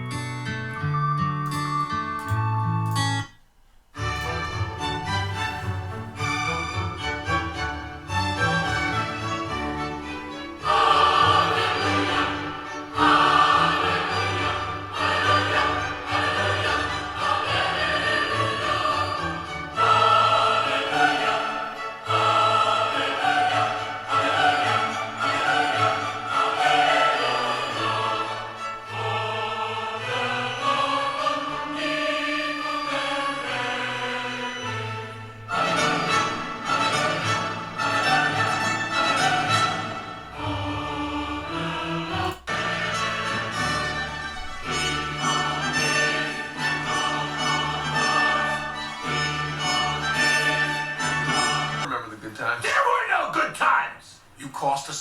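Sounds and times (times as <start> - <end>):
orchestral music with choir: 4.0 - 51.9.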